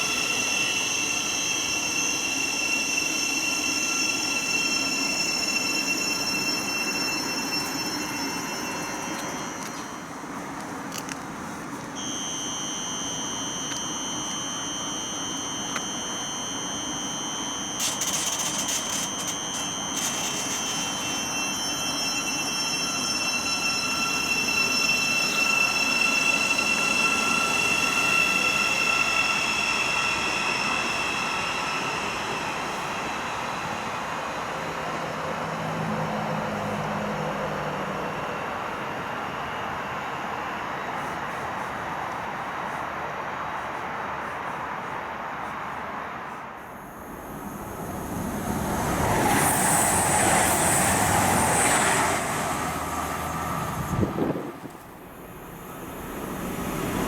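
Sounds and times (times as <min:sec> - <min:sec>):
train rumble: 0:00.0 - 0:12.0, 0:17.8 - 0:57.0
high-pitched whining tones: 0:00.0 - 0:45.0, 0:45.8 - 0:57.0.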